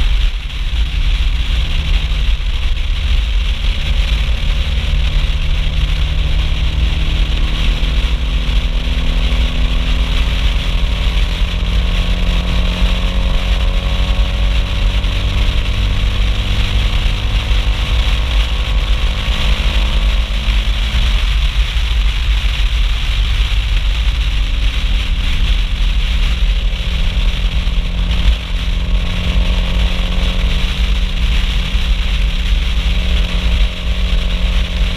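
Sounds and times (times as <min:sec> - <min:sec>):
turbocharged car engine and exhaust: 0:00.0 - 0:34.9
wind rumble on microphone: 0:00.0 - 0:34.9.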